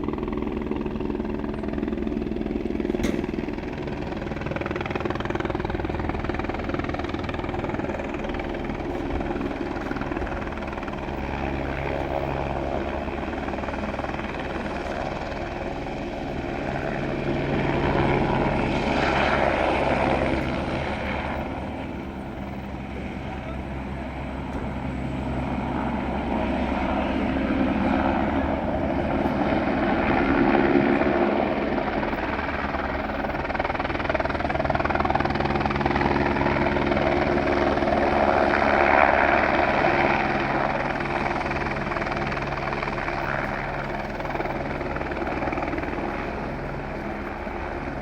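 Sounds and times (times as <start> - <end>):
helicopter rotor and engine: 0.0 - 48.0.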